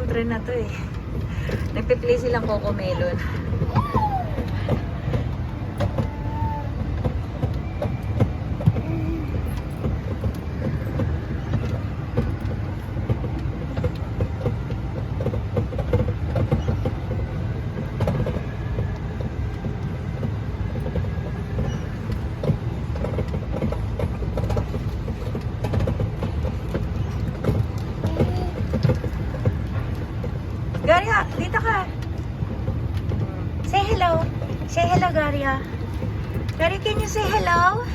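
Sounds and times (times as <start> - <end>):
ride-on train rumbling and rattling: 0.0 - 37.9.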